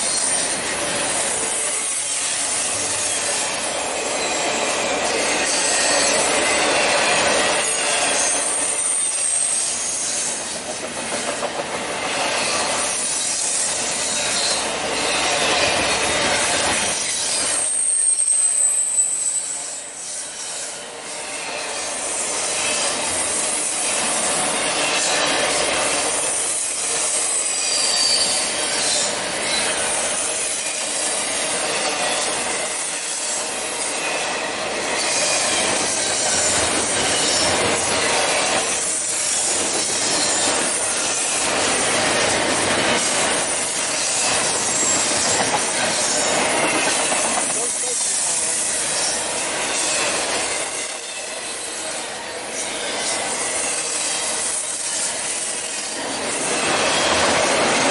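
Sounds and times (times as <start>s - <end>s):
high wheel-flange squeals: 0.0s - 10.5s, 12.1s - 25.7s, 26.3s - 57.9s
freight train wheels on rails: 0.0s - 57.9s.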